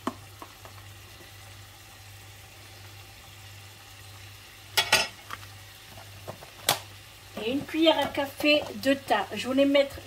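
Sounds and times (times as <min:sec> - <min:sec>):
bacon and onions sizzling: 0:00.0 - 0:10.0.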